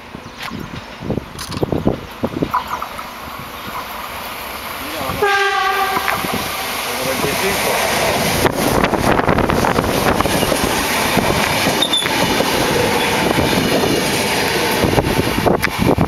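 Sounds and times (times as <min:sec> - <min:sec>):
train wheels clattering over rails: 0:00.6 - 0:16.0.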